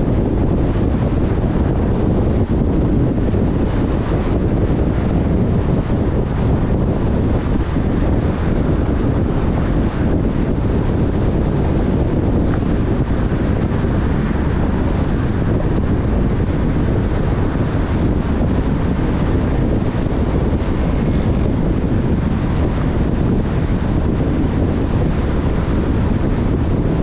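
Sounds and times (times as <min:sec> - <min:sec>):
car road noise: 0:00.0 - 0:27.0
wind rumbling on microphone: 0:00.0 - 0:27.0.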